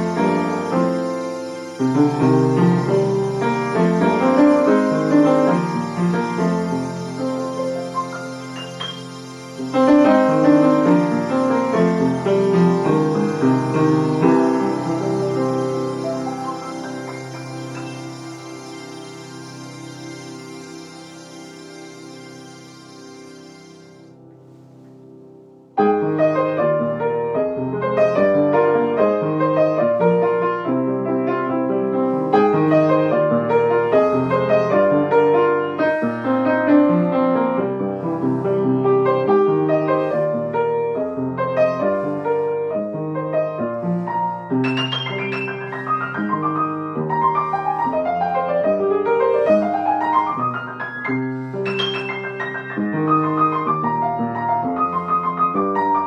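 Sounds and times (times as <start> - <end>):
solo piano playing slow song: 0.0 - 56.0.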